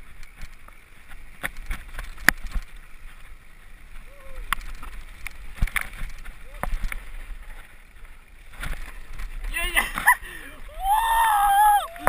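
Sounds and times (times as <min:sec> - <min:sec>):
mountain bike rattling on rocks: 0:00.0 - 0:10.2
tyres and wind rumble: 0:00.0 - 0:12.0.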